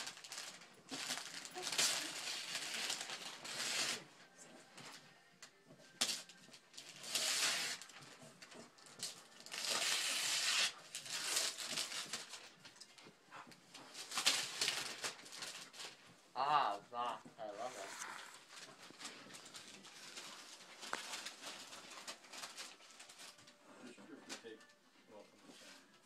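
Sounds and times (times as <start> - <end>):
wrapping paper tearing and crumpling: 0.0 - 5.0, 6.0 - 12.8, 13.7 - 16.8, 17.4 - 23.6.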